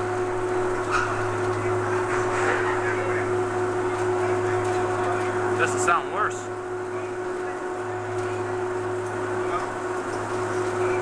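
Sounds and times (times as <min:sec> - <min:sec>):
ferry machinery droning hum: 0:00.0 - 0:11.0.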